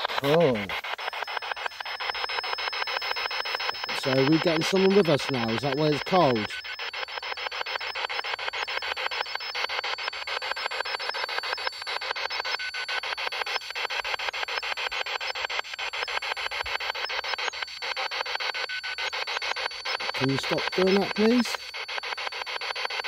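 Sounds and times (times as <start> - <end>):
pulsing radio static: 0.0 - 23.0.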